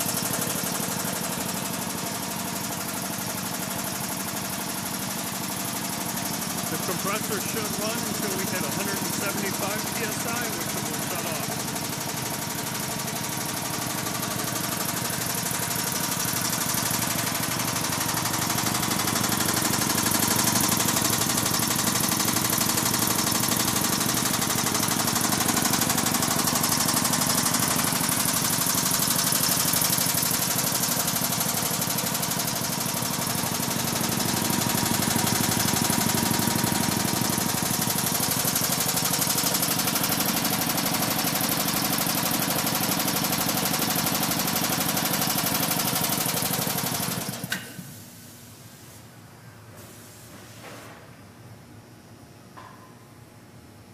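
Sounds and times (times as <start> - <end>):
air compressor pumping: 0.0 - 48.9.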